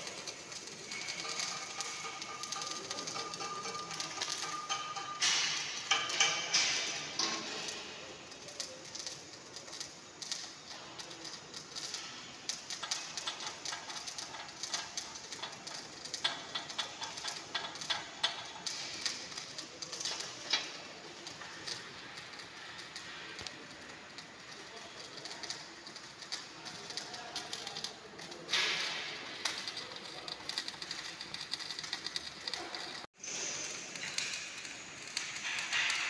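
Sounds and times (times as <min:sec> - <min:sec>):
welding arc crackling: 0:00.0 - 0:36.0.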